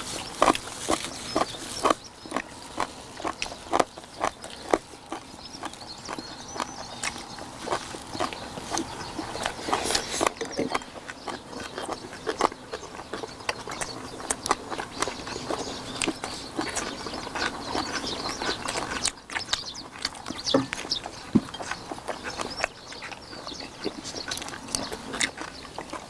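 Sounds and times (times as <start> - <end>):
people chewing and smacking: 0.0 - 26.0.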